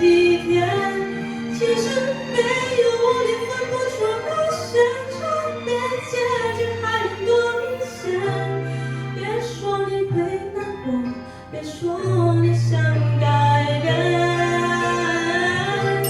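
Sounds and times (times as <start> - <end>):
woman singing pop song: 0.0 - 16.0.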